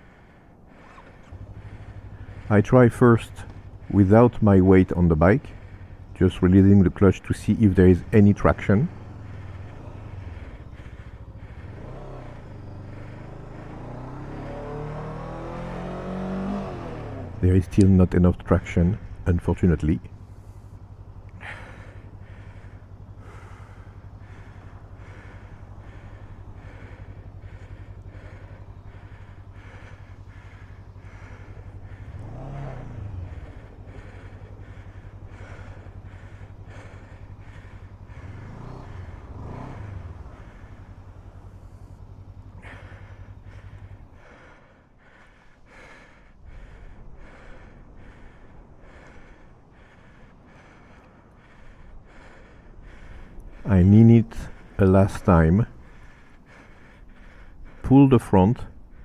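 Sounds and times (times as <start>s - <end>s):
person breathing hard: 0.0s - 19.2s, 20.0s - 59.0s
man panting: 0.0s - 59.0s
motorcycle engine idling: 0.0s - 59.0s.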